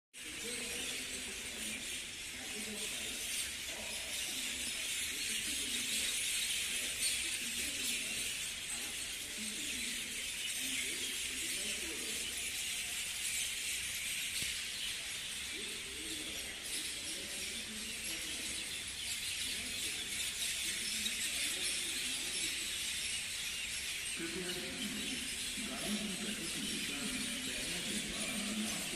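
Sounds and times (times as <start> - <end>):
flock of small birds chirping: 0.2 - 28.9.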